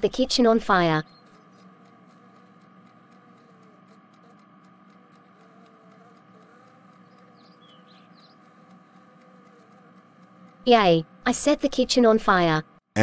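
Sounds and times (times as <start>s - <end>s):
tiny ticks: 1.0s - 11.8s.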